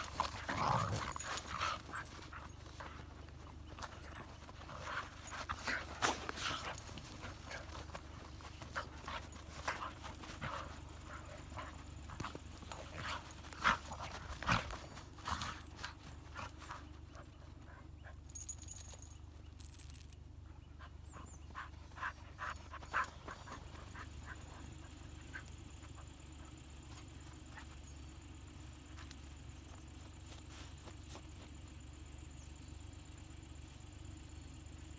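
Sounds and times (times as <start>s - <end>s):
dogs play-fighting: 0.0s - 31.6s.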